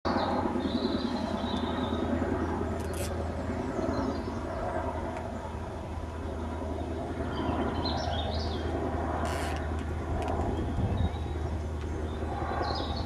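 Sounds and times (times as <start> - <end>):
outdoor background rumble: 0.1 - 13.0.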